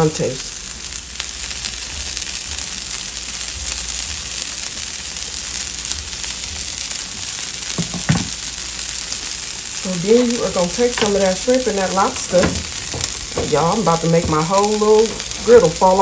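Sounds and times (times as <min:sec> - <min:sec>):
tortillas sizzling on a griddle: 0:00.0 - 0:16.0.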